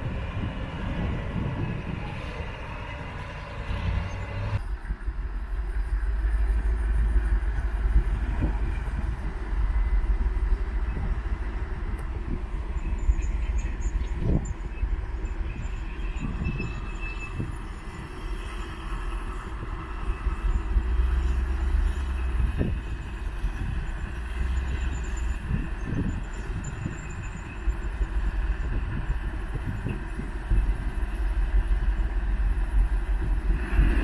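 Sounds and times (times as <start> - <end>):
diesel engines droning: 0.0 - 34.0.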